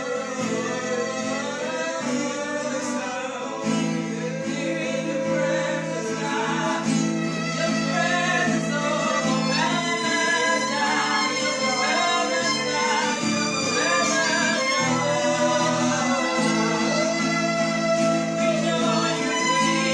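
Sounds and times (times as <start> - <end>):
acoustic guitar: 0.0 - 19.9
singing: 0.0 - 19.9
violin: 0.0 - 19.9.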